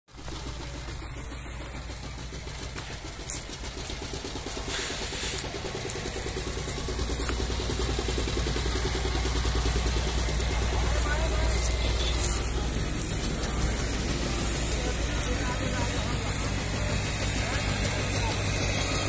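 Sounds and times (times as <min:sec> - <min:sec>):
diesel engine chugging: 0:00.1 - 0:19.0.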